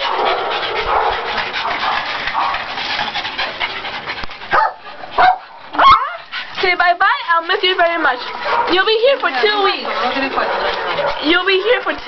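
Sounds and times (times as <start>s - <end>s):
dogs breathing in noisy puffs: 0.0s - 12.0s.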